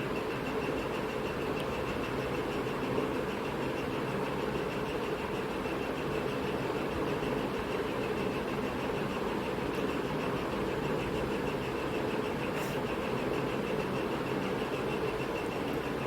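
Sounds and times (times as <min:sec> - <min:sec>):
steady mechanical hum with hiss: 0:00.0 - 0:16.0.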